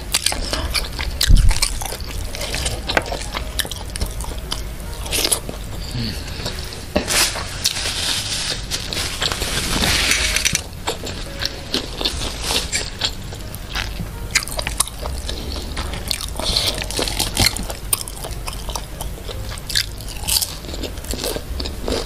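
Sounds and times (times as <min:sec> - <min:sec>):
crunching and chewing: 0:00.0 - 0:22.0.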